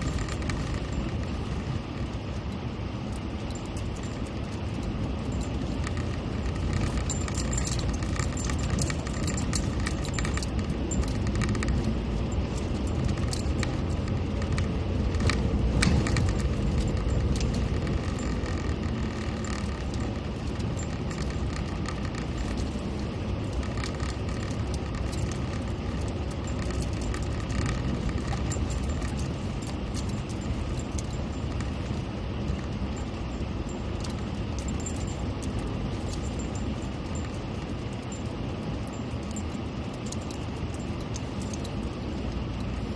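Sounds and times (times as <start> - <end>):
engine and tyre rumble: 0.0 - 42.9
vehicle rattling and clinking: 0.0 - 42.9.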